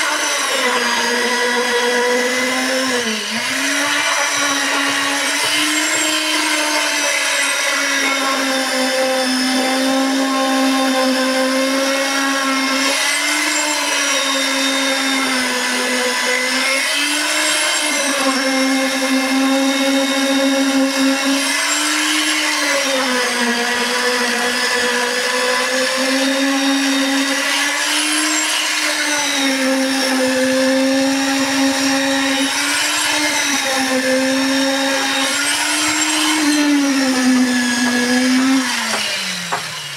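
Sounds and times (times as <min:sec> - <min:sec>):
concrete vibrator motor whine: 0:00.0 - 0:39.9.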